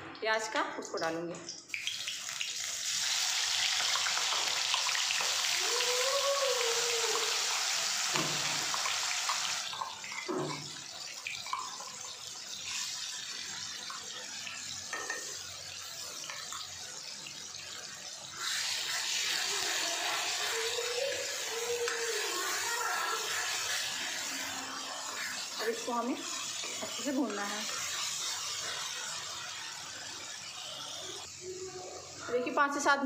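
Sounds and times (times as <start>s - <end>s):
paste sizzling in hot oil: 1.7s - 32.9s.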